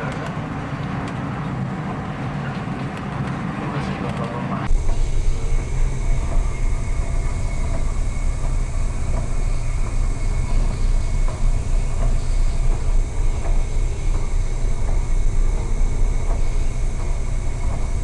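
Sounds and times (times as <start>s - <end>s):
heavy seas roaring over bow: 0.0s - 18.0s.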